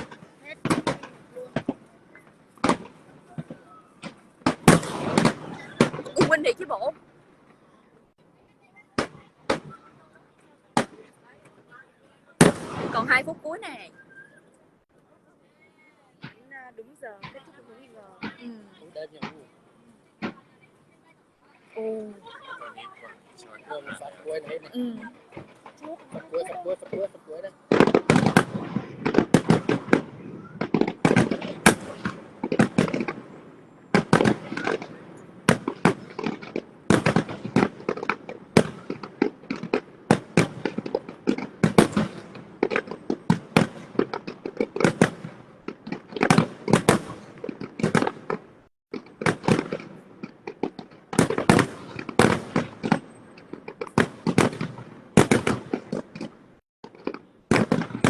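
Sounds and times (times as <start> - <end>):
fireworks bursting: 0.0 - 14.7, 15.7 - 58.0.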